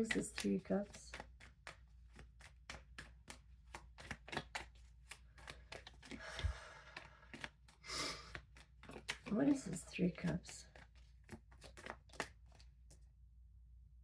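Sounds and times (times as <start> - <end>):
cards being shuffled: 0.0 - 13.0
papery card rustle: 0.0 - 13.0.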